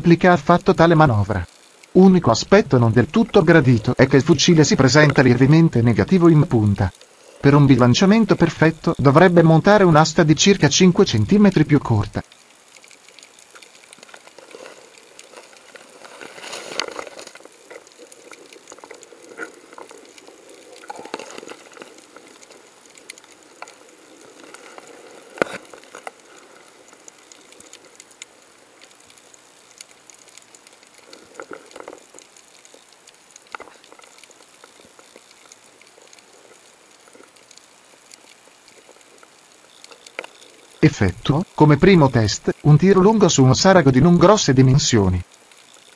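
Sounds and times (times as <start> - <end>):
underwater crackle and clicks: 0.0 - 45.9
underwater rustle: 0.0 - 45.9.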